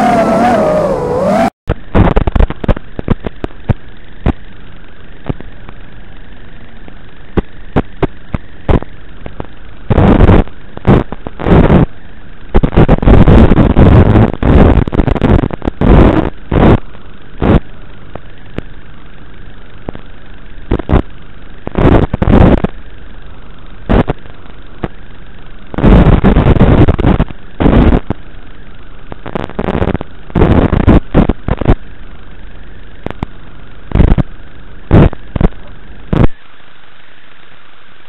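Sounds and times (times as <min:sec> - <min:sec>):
loud bursts of noise: 0:00.0 - 0:04.4, 0:07.3 - 0:17.7, 0:19.9 - 0:22.9, 0:23.8 - 0:38.0
radio static hiss: 0:00.0 - 0:38.0.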